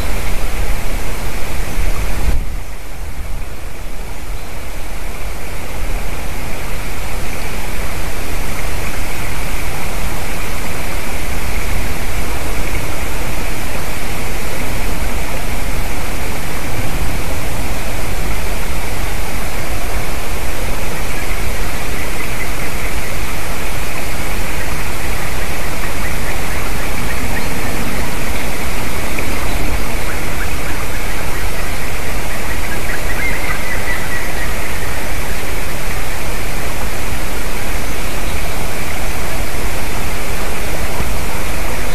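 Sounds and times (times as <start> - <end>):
loud rushing hiss: 0.0 - 41.9.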